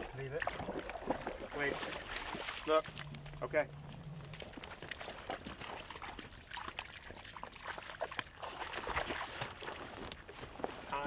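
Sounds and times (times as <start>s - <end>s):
pond water splashing and trickling: 0.0s - 11.0s.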